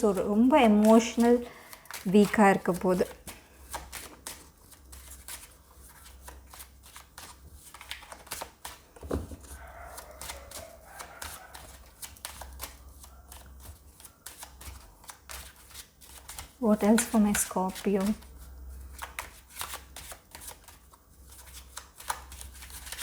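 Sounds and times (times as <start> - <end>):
cards being shuffled: 0.0 - 18.3, 18.9 - 23.0.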